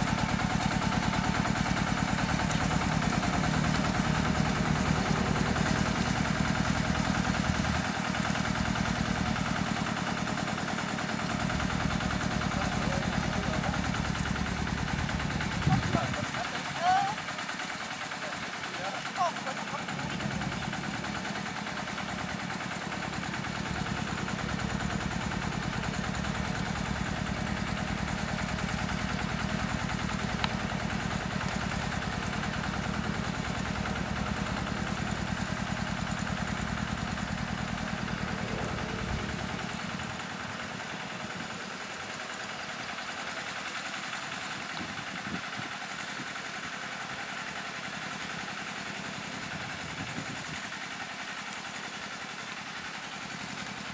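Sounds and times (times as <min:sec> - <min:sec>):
tractor engine chugging: 0:00.0 - 0:53.9.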